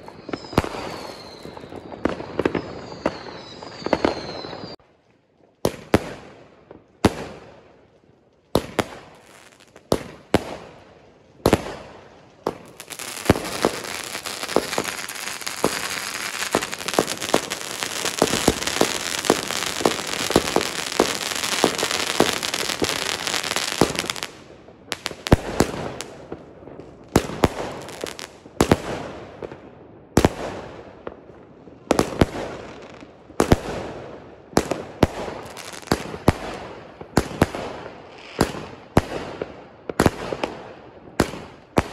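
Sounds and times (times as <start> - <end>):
fireworks bangs: 0.0 - 4.8, 8.5 - 41.9
fireworks crackling: 0.0 - 4.8, 7.0 - 29.6, 31.7 - 41.9.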